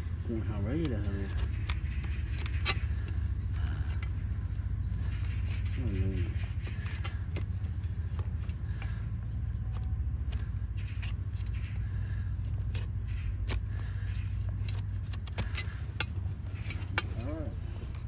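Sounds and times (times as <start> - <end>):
low rumble: 0.0 - 18.0
blade scraping hoof: 0.3 - 18.0.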